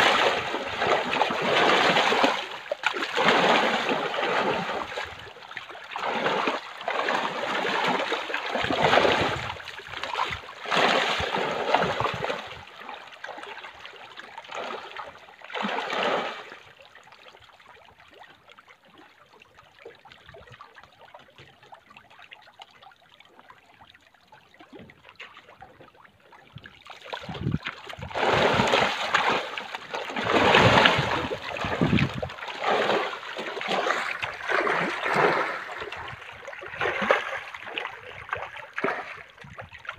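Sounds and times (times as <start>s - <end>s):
fish splashing in water: 0.0s - 19.1s, 19.8s - 39.9s.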